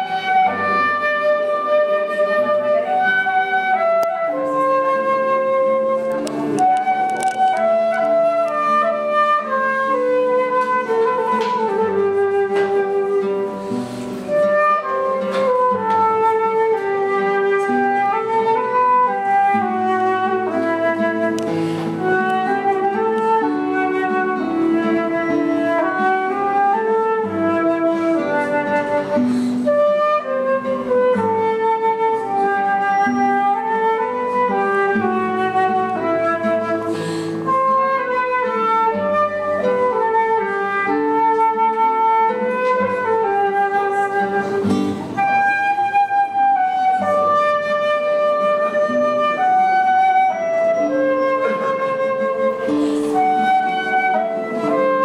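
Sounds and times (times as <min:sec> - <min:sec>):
flute melody: 0:00.0 - 0:55.0
plucked classical guitar: 0:00.0 - 0:55.0.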